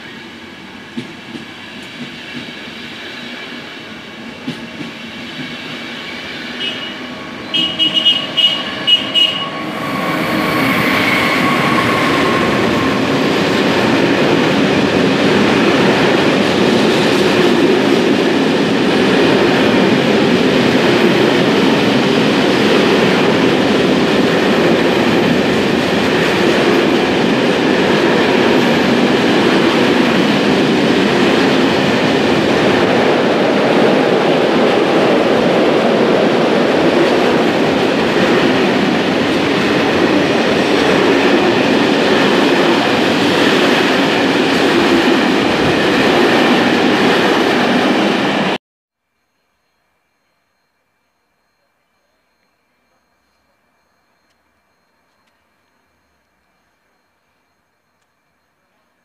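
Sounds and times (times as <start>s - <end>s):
freight train wheels on rails: 0.0s - 48.6s.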